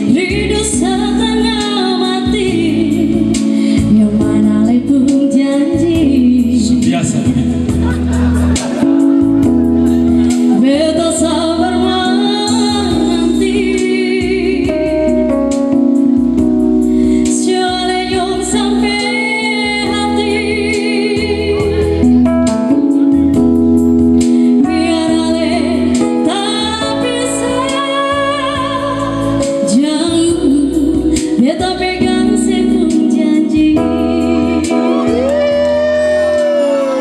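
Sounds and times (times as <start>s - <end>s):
woman singing into a microphone: 0.0s - 8.1s, 8.8s - 37.0s
instrumental accompaniment: 0.0s - 37.0s.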